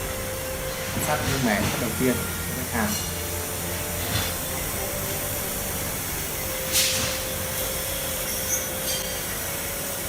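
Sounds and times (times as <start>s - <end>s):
electric motor humming: 0.0s - 10.0s.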